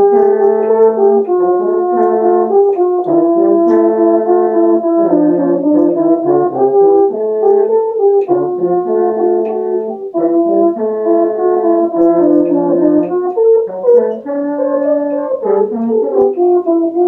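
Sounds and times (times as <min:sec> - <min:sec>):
french horns playing a duet: 0:00.0 - 0:17.0.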